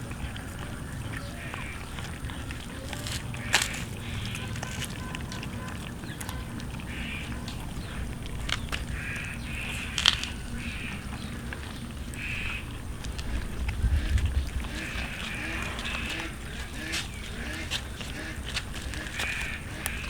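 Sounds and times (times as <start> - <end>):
cats chewing meat: 0.0 - 20.0.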